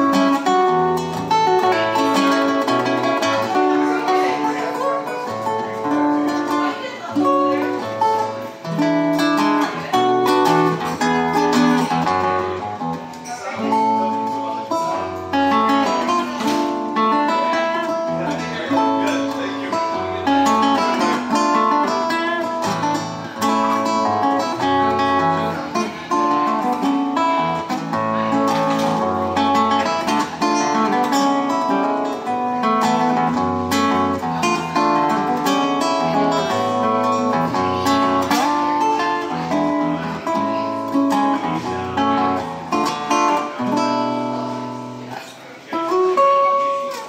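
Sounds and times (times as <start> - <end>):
fingerpicked classical guitar: 0.0 - 47.0.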